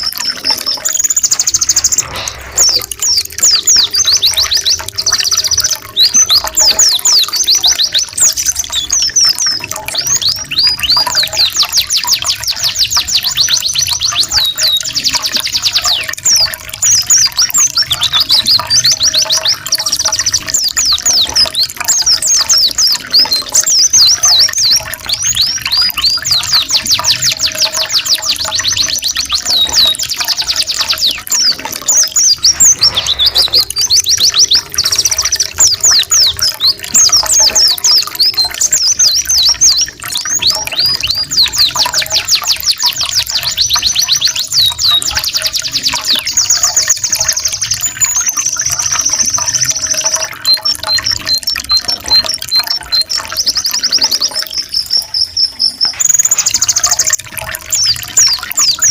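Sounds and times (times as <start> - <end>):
birds singing high trills: 0.0 - 58.9.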